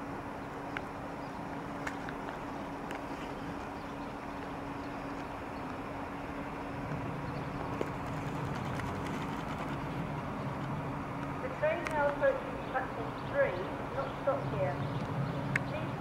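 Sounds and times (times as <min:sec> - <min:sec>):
electric train rumble: 0:00.0 - 0:16.0
steady hum: 0:00.0 - 0:16.0.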